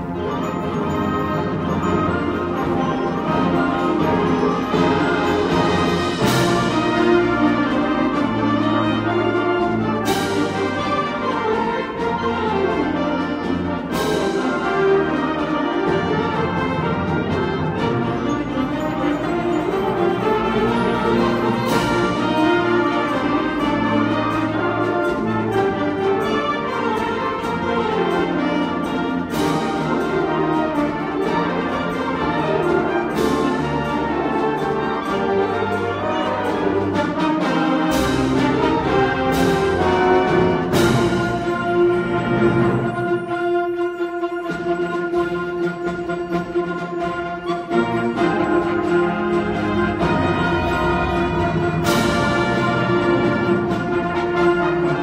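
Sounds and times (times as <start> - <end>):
concert band playing: 0.0 - 55.0.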